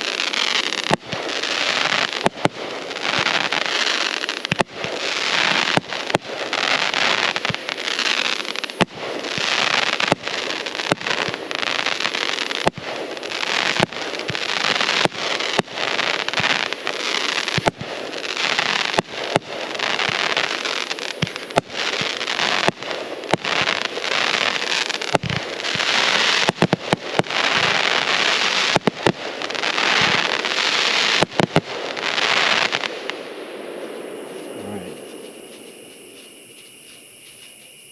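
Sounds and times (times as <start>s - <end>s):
fireworks bangs: 0.0s - 36.5s
fireworks crackling and hissing: 0.0s - 37.9s.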